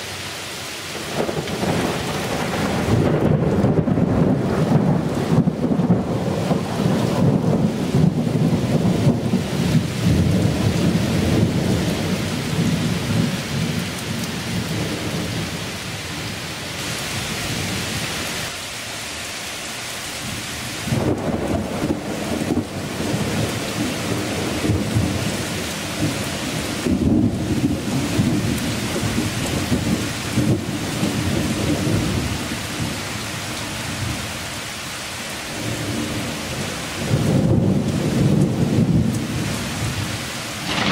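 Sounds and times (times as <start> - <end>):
heavy rain on pavement: 0.0 - 40.9.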